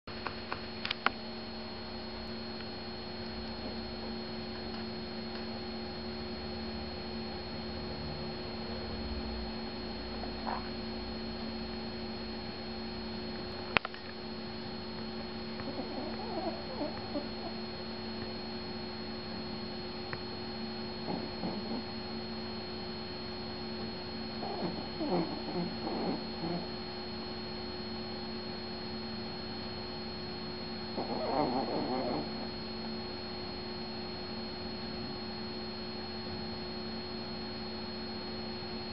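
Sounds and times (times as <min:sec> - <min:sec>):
electrical hum with high whine: 0:00.1 - 0:38.9.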